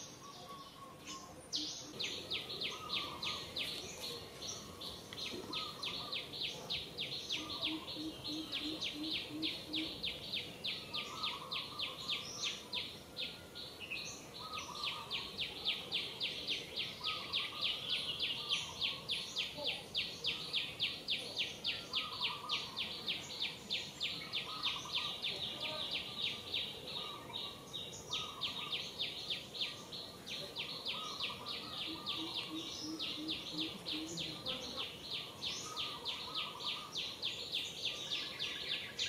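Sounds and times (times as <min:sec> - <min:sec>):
lower bird calls: 0:00.0 - 0:39.0.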